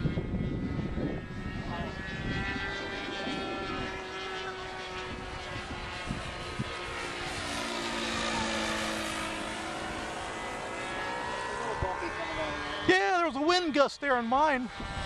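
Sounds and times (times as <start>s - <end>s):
model airplane engine in flight: 0.0s - 15.0s.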